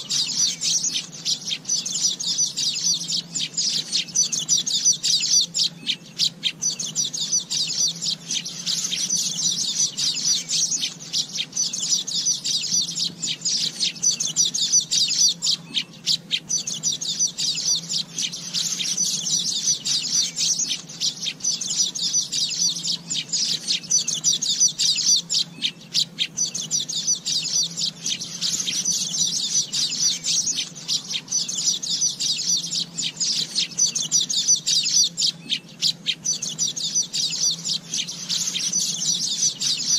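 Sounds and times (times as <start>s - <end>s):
weaver birds chirping and chattering: 0.0s - 39.9s.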